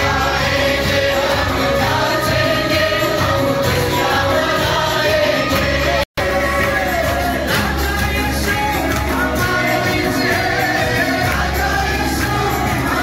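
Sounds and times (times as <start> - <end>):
acoustic guitar: 0.0 - 13.0
crowd singing worship song: 0.0 - 13.0
live band playing: 0.0 - 13.0.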